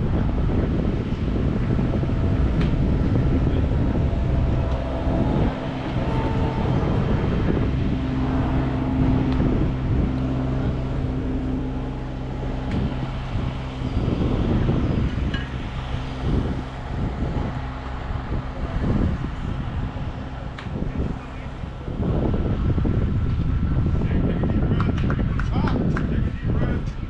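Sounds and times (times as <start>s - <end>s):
low mechanical hum: 0.0s - 27.0s
wind buffeting microphone: 0.0s - 27.0s.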